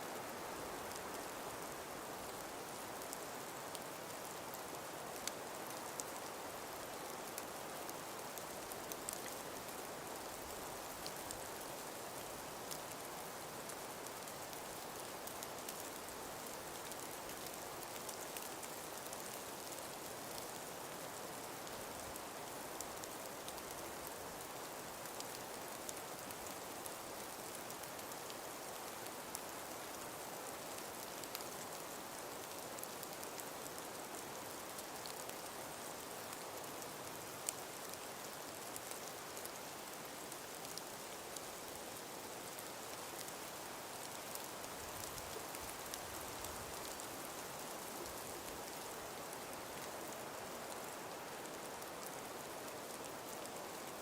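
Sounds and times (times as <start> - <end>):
breeze through forest: 0.0 - 54.0
faint ticks and patters: 0.0 - 54.0.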